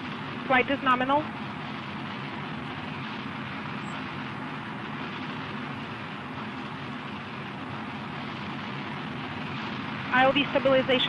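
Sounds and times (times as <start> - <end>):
rocket engine rushing: 0.0 - 11.0.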